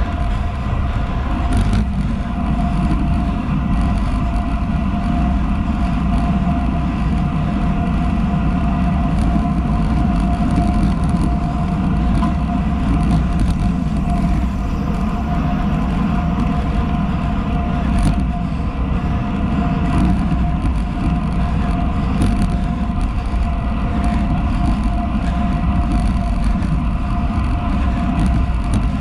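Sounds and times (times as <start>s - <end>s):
thin steady whine: 0.0s - 29.0s
tyres rolling on asphalt: 0.0s - 29.0s
wind rushing: 0.0s - 29.0s.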